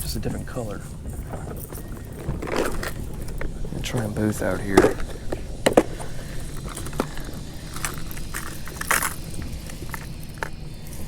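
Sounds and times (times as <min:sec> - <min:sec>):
fishing tackle clicking and jangling: 0:00.0 - 0:11.0
steady low hum: 0:00.0 - 0:11.0.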